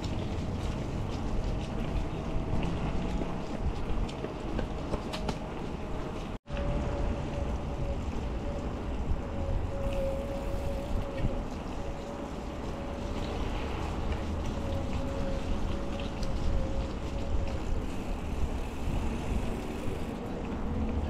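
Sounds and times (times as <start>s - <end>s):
bike tyres on wet path: 0.0s - 21.0s
wind buffeting microphone: 0.0s - 21.0s.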